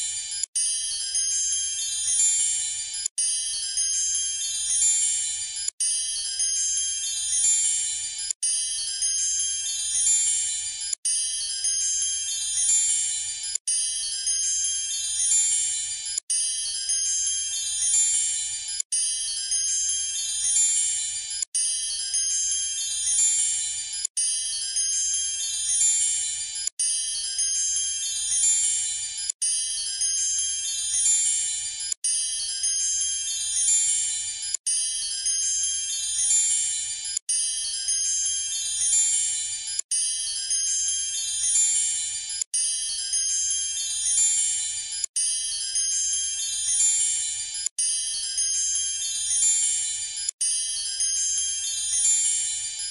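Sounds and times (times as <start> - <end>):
twinkling wind chime music: 0.0 - 52.9.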